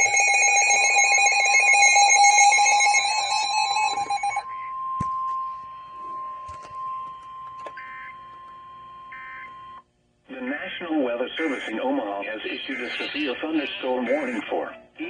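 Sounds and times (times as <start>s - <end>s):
rapidly pulsing alarm tone: 0.0s - 9.9s, 11.4s - 14.7s.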